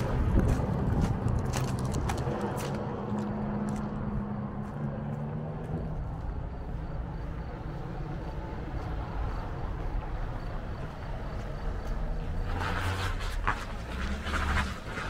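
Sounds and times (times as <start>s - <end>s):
steady low rumble: 0.0s - 12.3s
vehicle engine humming: 0.0s - 15.0s.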